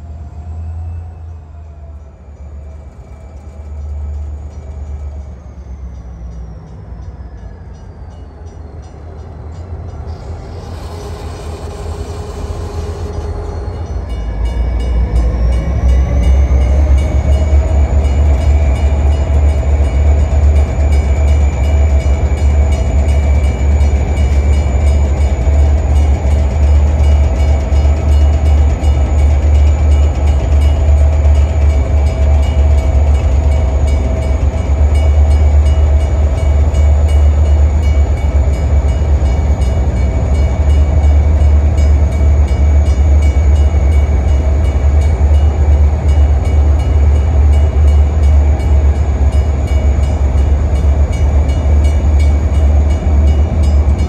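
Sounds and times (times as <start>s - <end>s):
locomotive engine rumble: 0.0s - 54.0s.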